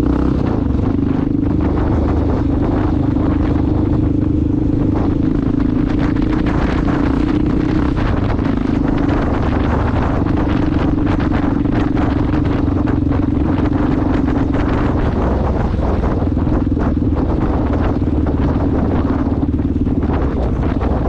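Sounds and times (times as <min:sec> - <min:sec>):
motorcycle engine cruising: 0:00.0 - 0:21.0
wind buffeting microphone: 0:00.0 - 0:21.0.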